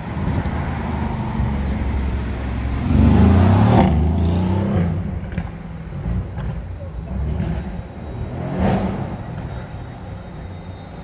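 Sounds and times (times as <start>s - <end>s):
vehicle engine passing by: 0.0s - 10.3s.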